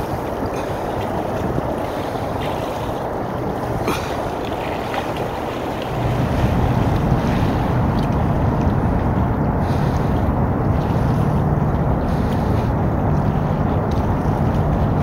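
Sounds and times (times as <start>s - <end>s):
low engine drone: 0.0s - 15.0s
open water ambience: 0.0s - 15.0s
wind buffeting microphone: 0.0s - 15.0s.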